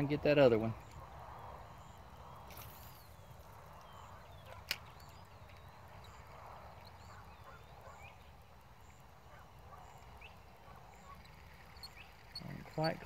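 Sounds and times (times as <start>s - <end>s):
low background rumble: 0.0s - 13.0s
faint bird calls: 0.8s - 13.0s.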